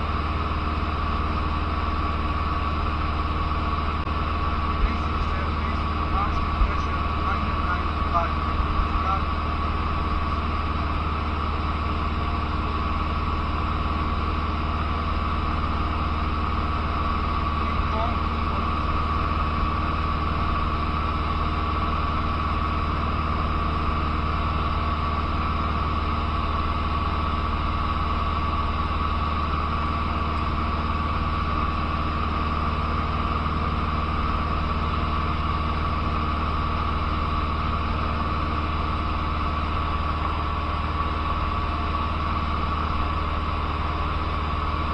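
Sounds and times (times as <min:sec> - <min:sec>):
aircraft engine droning: 0:00.0 - 0:44.9.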